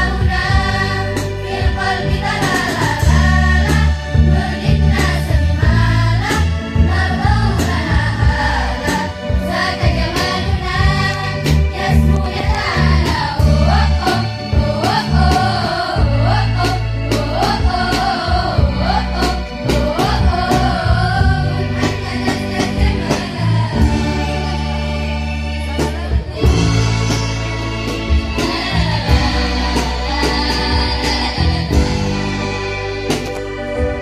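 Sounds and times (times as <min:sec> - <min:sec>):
bass line: 0:00.0 - 0:34.0
girls' choir singing: 0:00.0 - 0:34.0
keyboard and guitars: 0:00.0 - 0:34.0.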